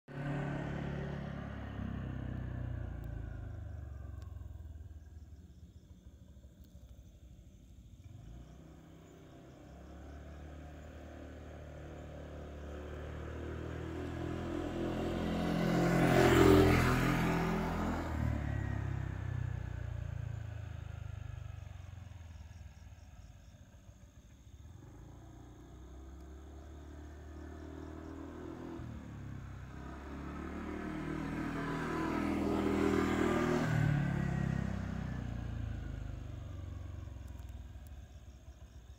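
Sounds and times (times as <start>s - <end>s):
vehicles passing by: 0.0s - 38.9s
high insect trill: 1.3s - 38.9s.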